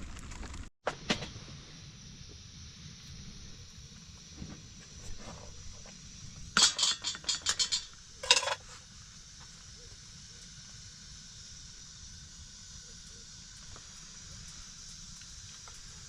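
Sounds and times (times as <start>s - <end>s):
steady hiss: 0.9s - 16.0s.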